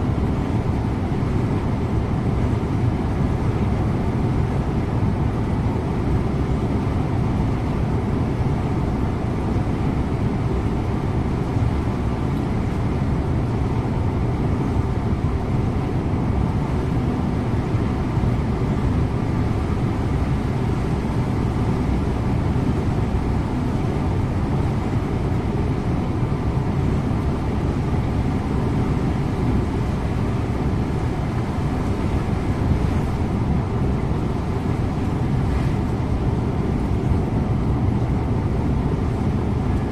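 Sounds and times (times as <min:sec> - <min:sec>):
coach engine drone: 0:00.0 - 0:39.9
road noise: 0:00.0 - 0:39.9.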